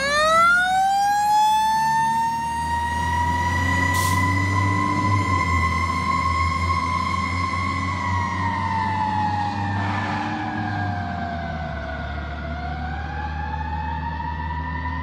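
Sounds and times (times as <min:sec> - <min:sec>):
fire engine siren wailing: 0:00.0 - 0:15.0.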